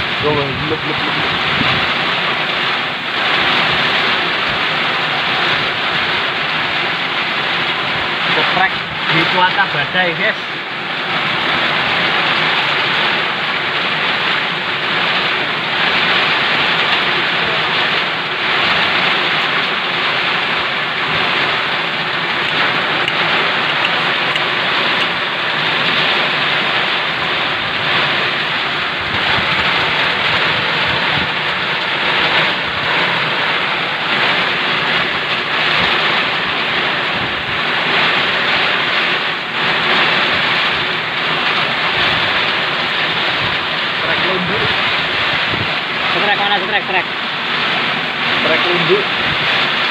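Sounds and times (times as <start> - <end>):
heavy rain falling: 0.0 - 49.9
wind: 0.0 - 49.9.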